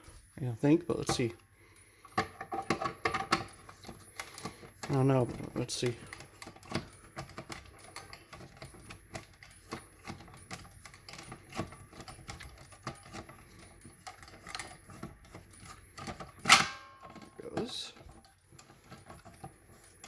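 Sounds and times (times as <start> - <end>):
clicks and knocks of alarm station: 2.1 - 20.0.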